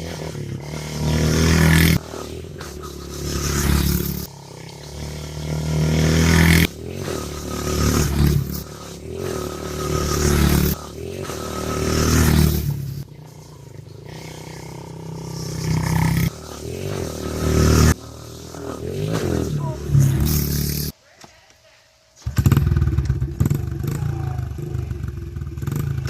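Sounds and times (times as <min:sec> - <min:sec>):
dirt bike engine revving: 0:00.0 - 0:21.0, 0:22.2 - 0:26.0.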